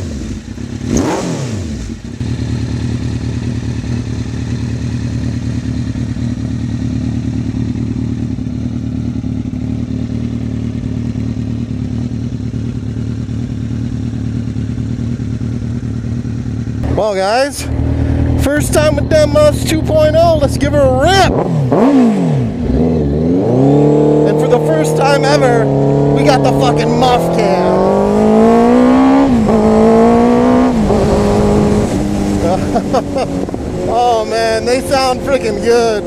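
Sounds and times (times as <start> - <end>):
motorcycle engine revving and idling: 0.0 - 36.0.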